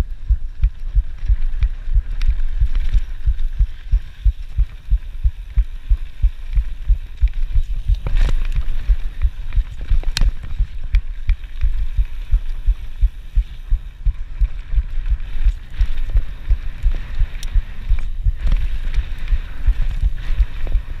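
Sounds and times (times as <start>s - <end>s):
heartbeat thumps: 0.0s - 21.0s.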